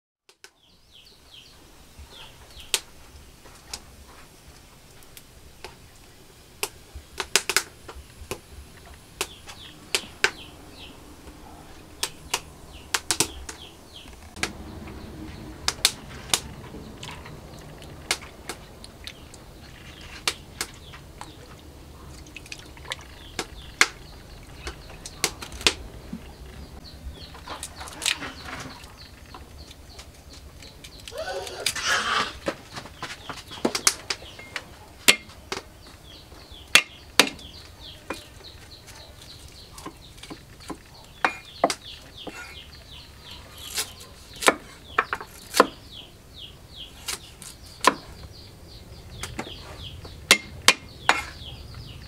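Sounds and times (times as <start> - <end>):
small birds chirping: 0.3 - 52.0
low steady hum: 0.7 - 52.0.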